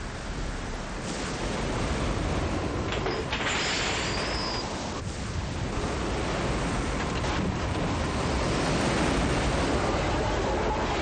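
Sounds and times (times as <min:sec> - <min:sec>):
tornado wind rushing: 0:00.0 - 0:11.0.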